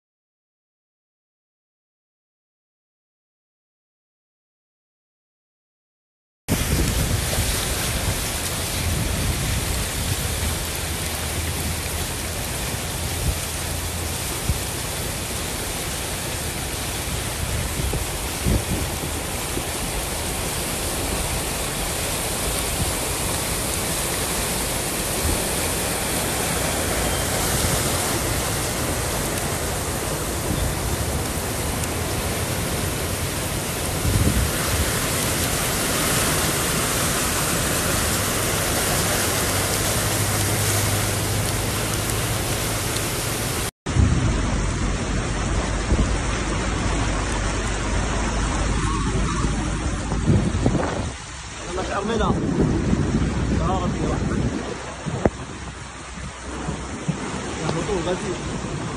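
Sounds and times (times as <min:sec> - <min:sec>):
floodwater rushing and splashing: 0:06.5 - 0:58.9
heavy rain: 0:06.5 - 0:58.9.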